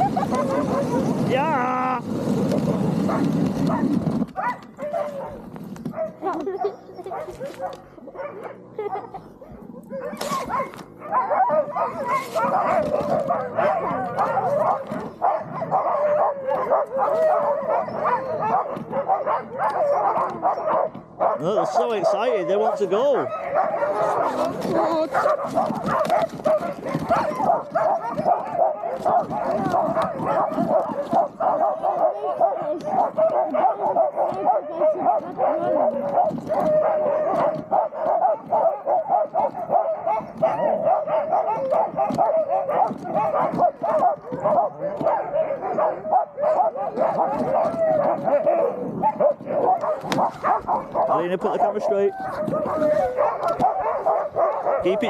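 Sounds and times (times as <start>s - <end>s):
huskies yipping and howling: 0.0s - 1.4s, 2.5s - 55.0s.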